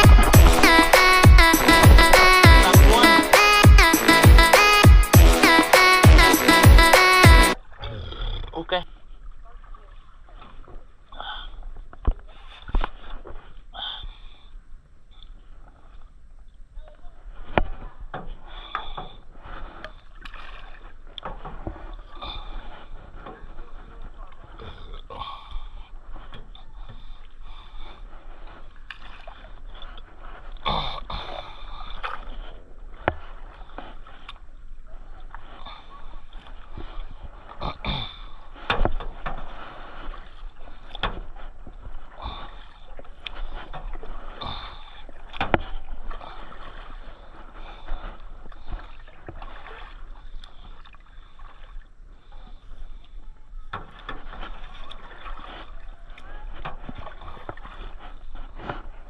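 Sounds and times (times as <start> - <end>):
water splashing from paddle strokes: 0.0 - 7.8, 16.9 - 59.0.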